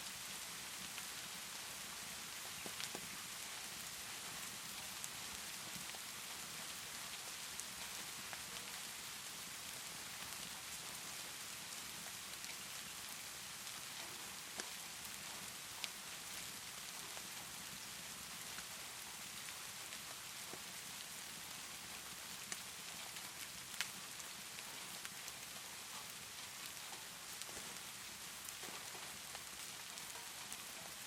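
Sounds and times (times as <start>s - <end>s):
steady rainfall: 0.0s - 31.0s
wood fire crackling: 0.7s - 31.0s.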